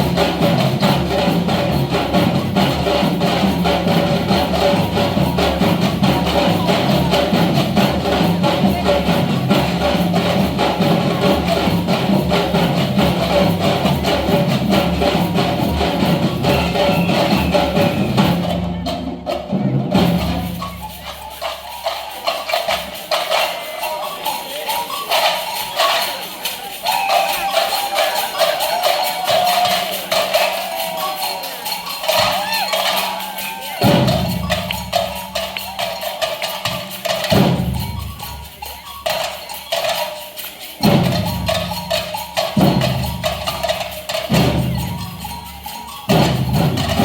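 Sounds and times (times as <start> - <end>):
tambourine jingles: 0.0 - 18.8, 19.9 - 47.0
samba percussion: 0.0 - 47.0.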